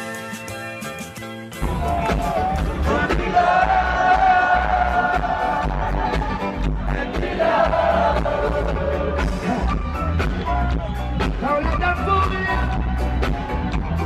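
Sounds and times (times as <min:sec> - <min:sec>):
crowd noise: 0:00.0 - 0:14.0
live reggae band playing: 0:00.0 - 0:14.0
heavy bass: 0:01.6 - 0:14.0.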